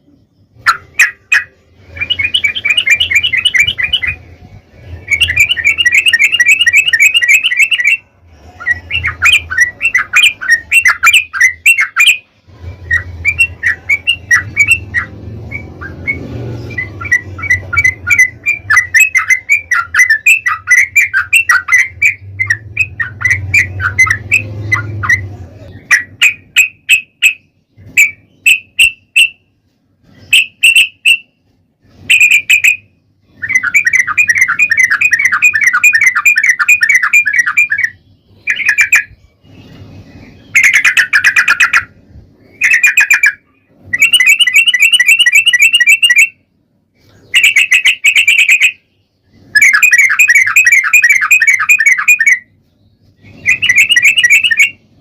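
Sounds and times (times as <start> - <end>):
bird chattering song: 0.0 - 29.4, 30.1 - 31.3, 31.9 - 46.4, 47.0 - 55.0.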